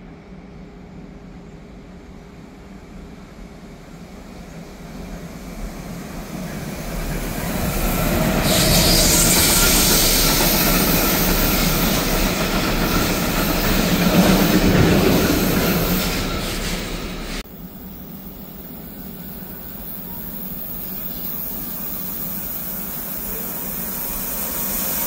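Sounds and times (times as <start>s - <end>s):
freight train passing: 0.0s - 25.0s.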